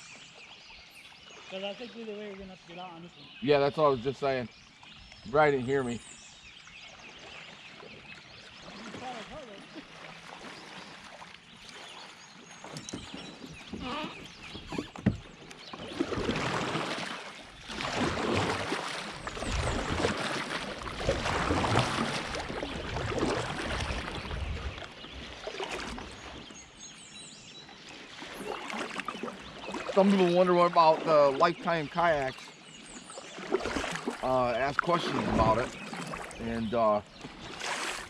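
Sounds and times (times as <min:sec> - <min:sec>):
creek water rushing and splashing: 0:00.0 - 0:38.0.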